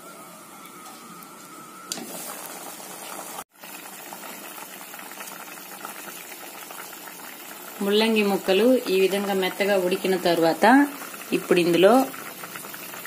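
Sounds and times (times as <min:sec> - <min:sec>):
pot bubbling at a simmer: 0:01.8 - 0:13.0.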